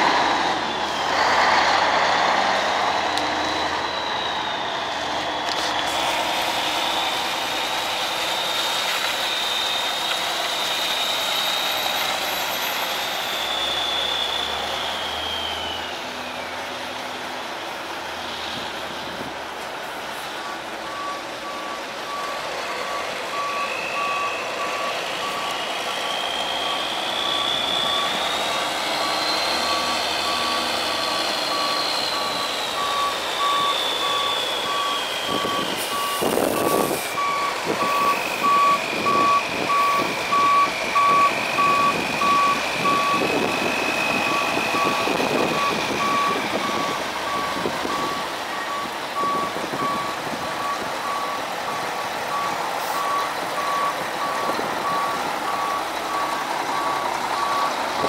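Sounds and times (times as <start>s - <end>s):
truck backup alarm beeping: 0.0s - 16.7s, 19.8s - 58.0s
diesel engine with turbo whine: 0.0s - 58.0s.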